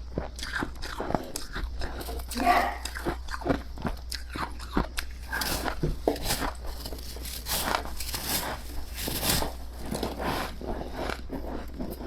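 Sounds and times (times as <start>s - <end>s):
steady low hum: 0.0s - 12.0s
mouth crunching frost: 0.4s - 12.0s.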